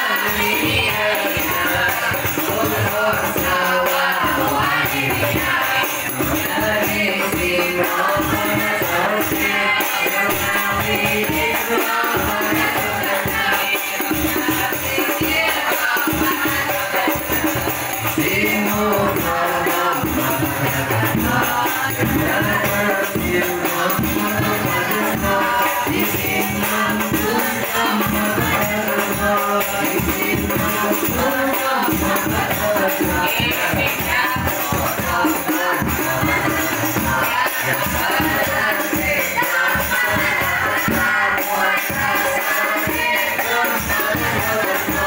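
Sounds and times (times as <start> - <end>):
boys singing in unison: 0.0 - 45.0
frame drums beating: 0.0 - 45.0.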